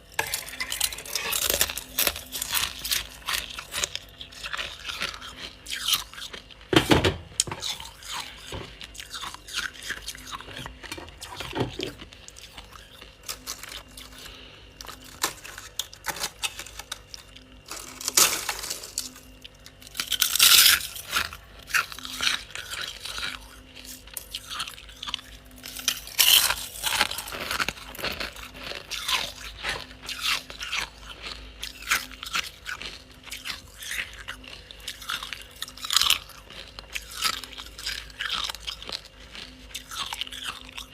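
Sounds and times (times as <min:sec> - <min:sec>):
ice cubes crunching: 0:00.0 - 0:06.8, 0:07.4 - 0:40.9.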